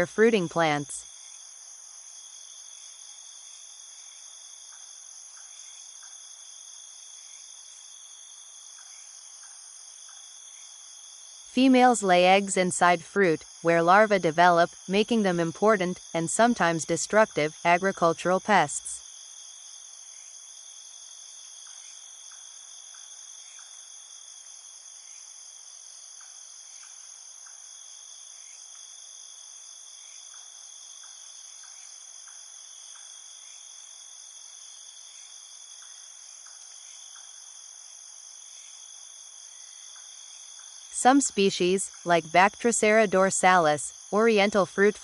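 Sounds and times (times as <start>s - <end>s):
shrill insect chorus: 0.0s - 45.0s.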